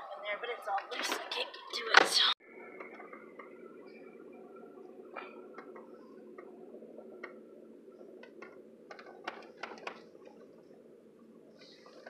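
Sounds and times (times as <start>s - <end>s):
low cabin hum: 0.0s - 12.0s.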